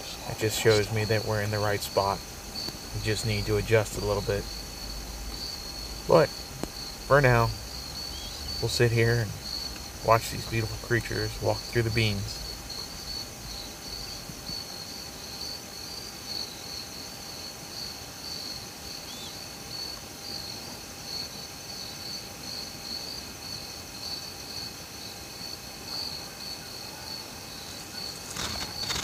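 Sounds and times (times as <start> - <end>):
insects chirping in pulsed trill: 0.0 - 29.0.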